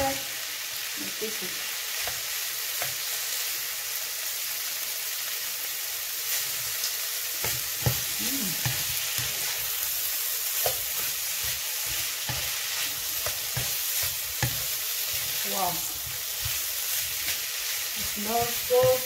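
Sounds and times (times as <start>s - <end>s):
meat frying in oil: 0.0s - 19.0s.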